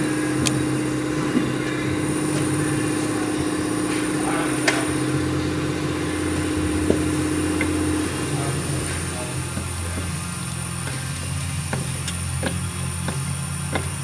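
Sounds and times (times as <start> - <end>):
hand tools clicking on metal: 0.0 - 14.0
steady machine hum: 0.0 - 14.0.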